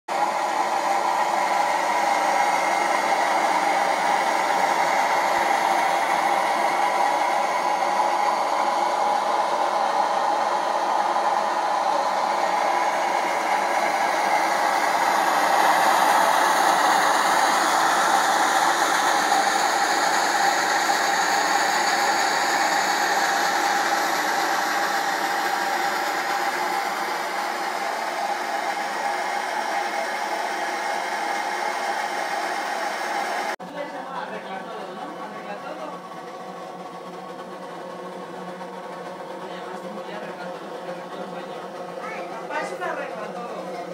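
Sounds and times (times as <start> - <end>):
stove burner hissing: 0.2 - 43.9.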